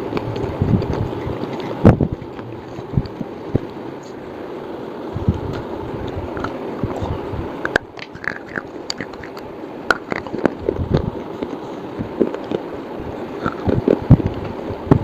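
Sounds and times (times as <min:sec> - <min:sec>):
crunching and chewing: 0:00.0 - 0:04.1, 0:05.3 - 0:07.1, 0:07.7 - 0:14.6.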